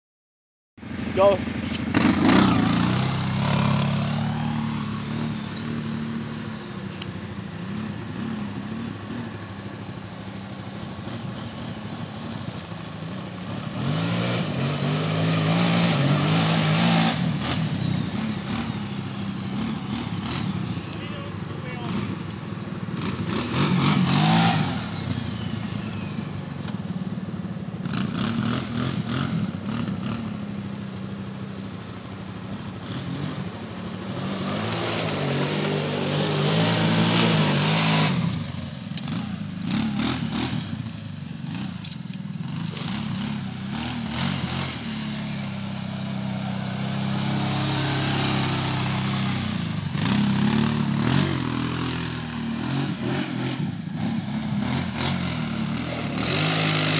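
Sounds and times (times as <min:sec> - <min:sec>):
atv engine revving: 0:00.8 - 0:56.9.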